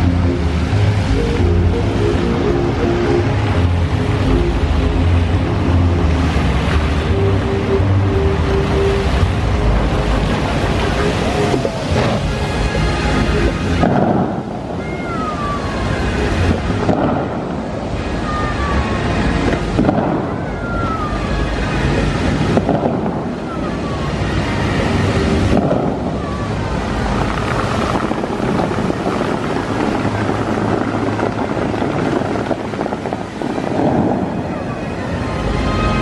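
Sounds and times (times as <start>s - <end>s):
fountain water jets splashing: 0.0s - 36.0s
water jets blasting up: 0.0s - 36.0s.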